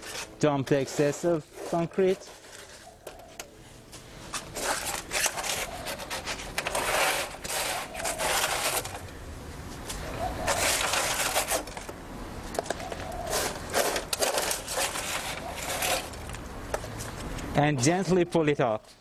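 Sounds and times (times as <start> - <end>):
concrete scraping against steel: 0.0 - 3.4, 4.0 - 9.2, 9.8 - 12.0, 12.6 - 18.3.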